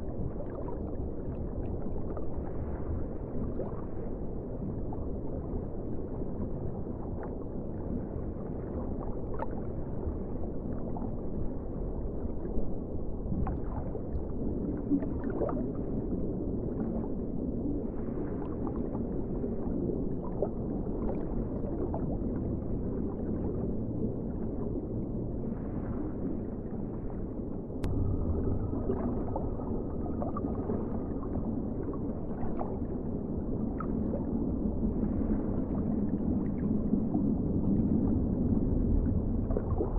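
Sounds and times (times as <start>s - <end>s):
muffled underwater rumble: 0.0s - 39.9s
underwater gurgles: 0.0s - 39.9s.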